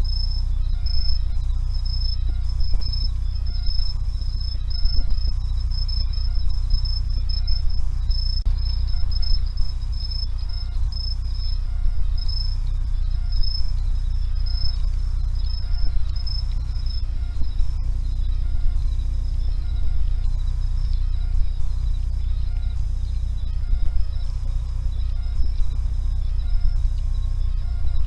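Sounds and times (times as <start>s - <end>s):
insects chirping: 0.0s - 28.0s
steady low rumble: 0.0s - 28.0s.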